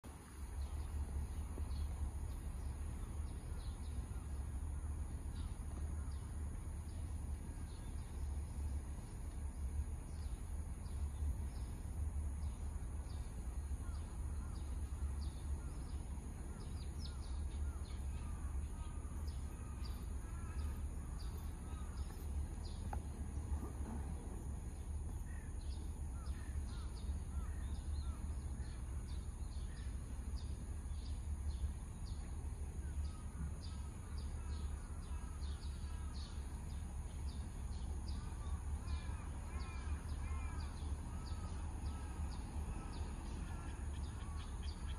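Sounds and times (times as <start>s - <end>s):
steady low rumble: 0.0s - 44.9s
birds calling and chirping: 0.1s - 44.9s.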